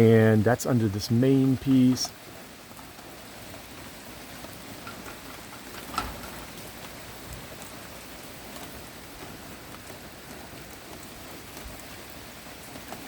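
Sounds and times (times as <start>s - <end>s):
rain patter: 0.0s - 13.0s.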